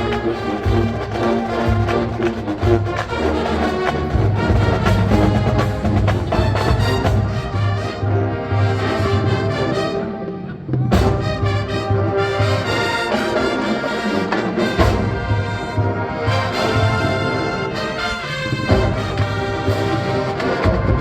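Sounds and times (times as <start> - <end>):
marching band playing funk: 0.0 - 21.0.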